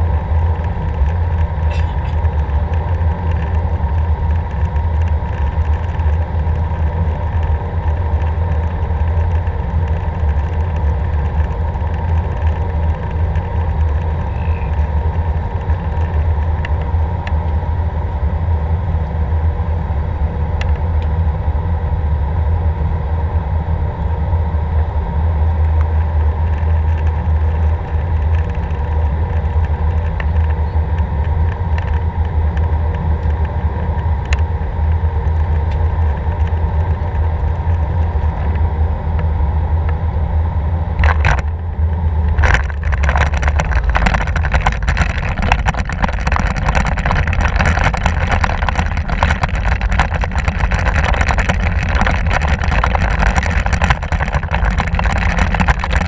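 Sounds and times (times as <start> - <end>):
engine rumble and rushing air: 0.0 - 56.0
faint steady whine: 0.0 - 56.0.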